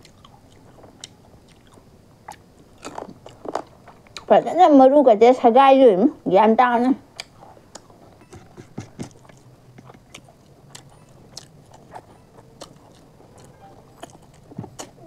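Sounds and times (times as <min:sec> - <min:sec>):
person chewing food: 0:00.0 - 0:04.3, 0:07.2 - 0:15.0.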